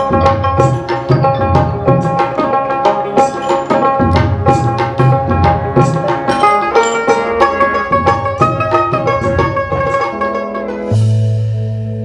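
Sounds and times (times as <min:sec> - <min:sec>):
hand drum rhythm: 0:00.0 - 0:11.5
melody of held notes: 0:00.0 - 0:12.0.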